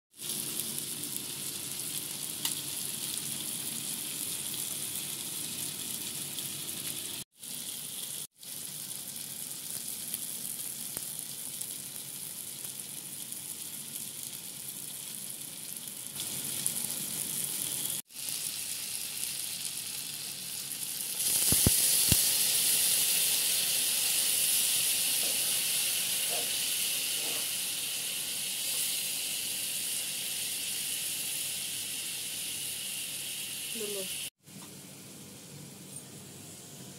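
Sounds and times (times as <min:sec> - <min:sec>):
curry sizzling in frying pan: 0:00.1 - 0:34.3.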